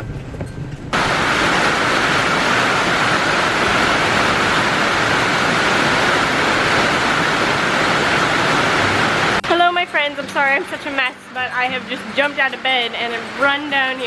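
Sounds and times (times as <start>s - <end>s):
heavy rain hissing: 1.0s - 14.0s.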